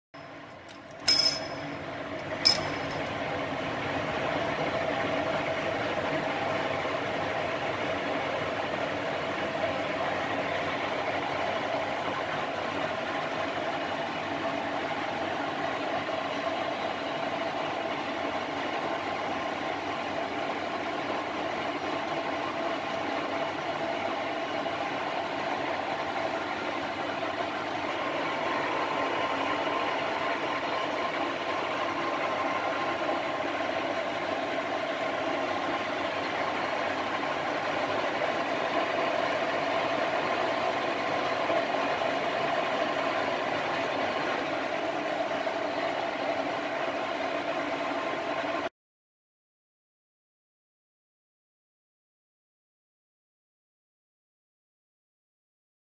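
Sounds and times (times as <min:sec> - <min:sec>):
lathe running hum: 0:00.4 - 0:48.7.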